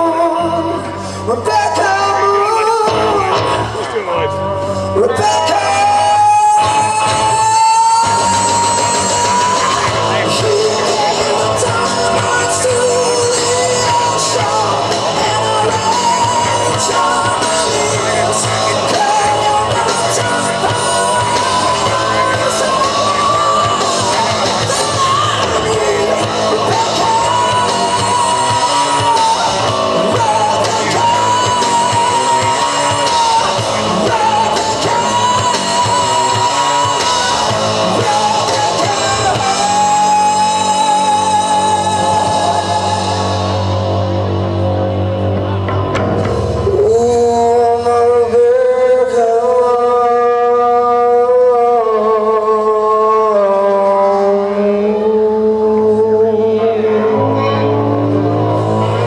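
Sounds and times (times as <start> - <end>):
rock band playing: 0.0 - 59.0
singer singing and shouting: 0.0 - 59.0.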